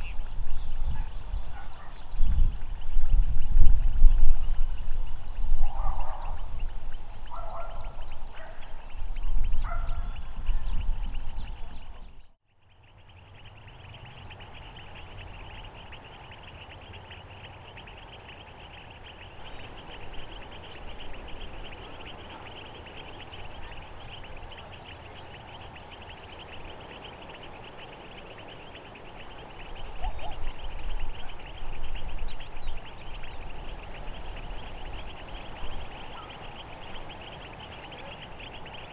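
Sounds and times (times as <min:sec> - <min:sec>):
wind rumbling on microphone: 0:00.0 - 0:12.4, 0:19.4 - 0:38.9
chirring chorus of wetland creatures: 0:00.0 - 0:38.9.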